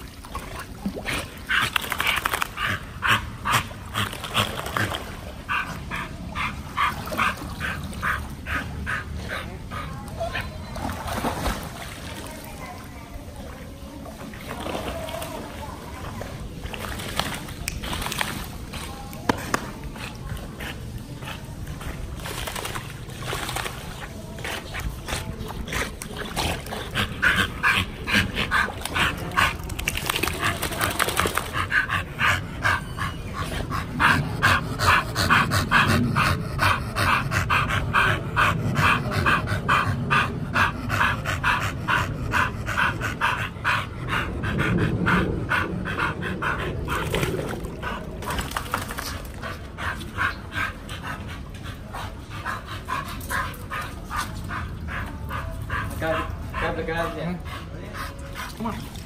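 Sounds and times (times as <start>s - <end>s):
dog panting hard: 1.1s - 10.6s, 19.3s - 22.6s, 23.3s - 59.0s.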